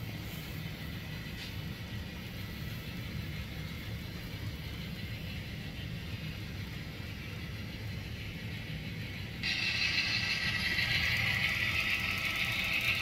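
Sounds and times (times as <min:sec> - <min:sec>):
model train rumbling and whirring: 0:00.0 - 0:13.0.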